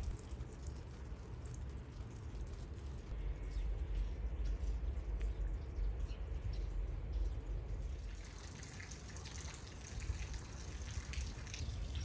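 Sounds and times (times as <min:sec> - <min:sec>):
low steady rumble: 0:00.0 - 0:12.0
water dripping and trickling: 0:00.0 - 0:12.0.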